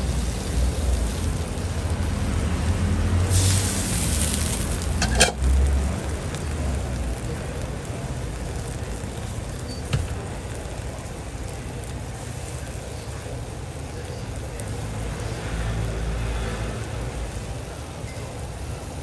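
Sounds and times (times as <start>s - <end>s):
burner hiss and rumble: 0.0s - 19.0s.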